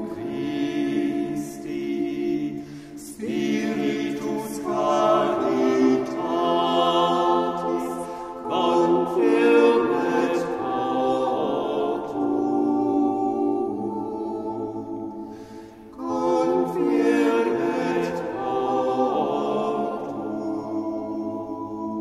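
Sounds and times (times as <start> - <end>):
choir singing a chant: 0.0 - 22.0.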